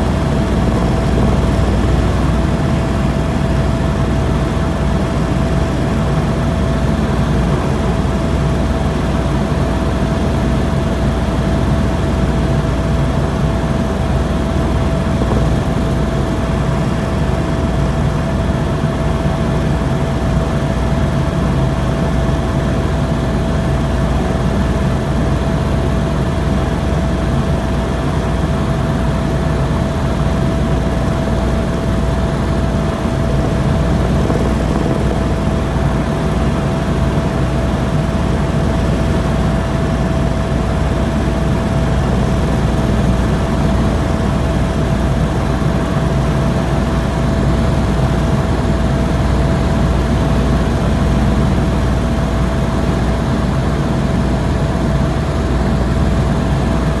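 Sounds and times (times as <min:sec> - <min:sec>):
helicopter rotor and engine rumble: 0:00.0 - 0:57.0.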